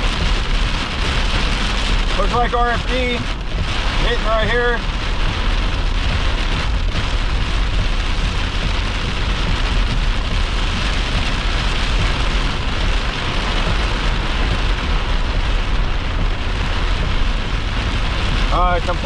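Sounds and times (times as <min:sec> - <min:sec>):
heavy rain pounding a vehicle: 0:00.0 - 0:19.0
low rumble: 0:00.0 - 0:19.0.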